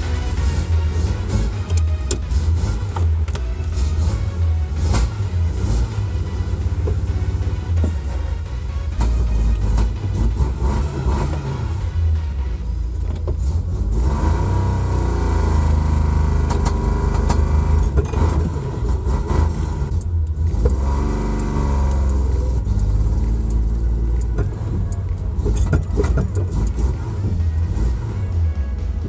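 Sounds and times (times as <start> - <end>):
car engine revving: 0.0 - 29.0
engine spitting and sputtering: 0.0 - 29.0.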